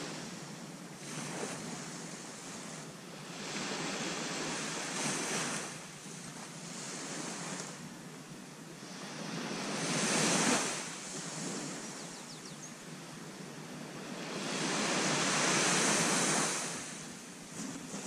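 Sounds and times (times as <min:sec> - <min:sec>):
waves breaking on beach: 0:00.0 - 0:08.0, 0:08.8 - 0:18.0.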